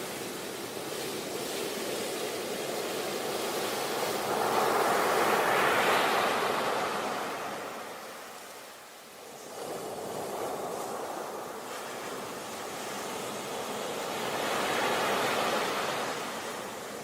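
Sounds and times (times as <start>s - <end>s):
sea waves breaking on beach: 0.0s - 17.0s.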